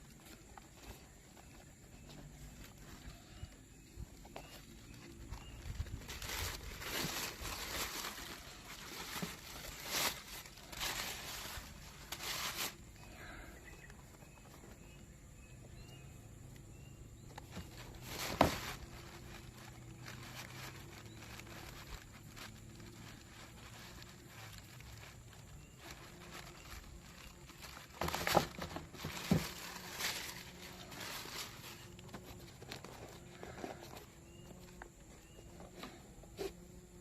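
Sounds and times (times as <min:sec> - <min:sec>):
box and wrapping rustling: 0:00.0 - 0:13.1, 0:16.8 - 0:37.0.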